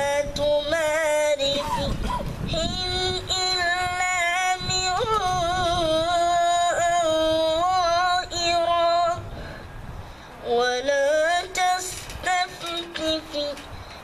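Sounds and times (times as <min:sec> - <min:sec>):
boy reciting melodically: 0:00.0 - 0:09.3, 0:10.4 - 0:14.0.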